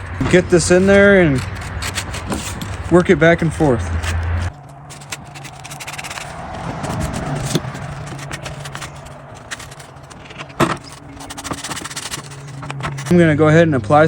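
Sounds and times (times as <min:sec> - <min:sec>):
sandpaper scraping wood: 0:00.0 - 0:13.1.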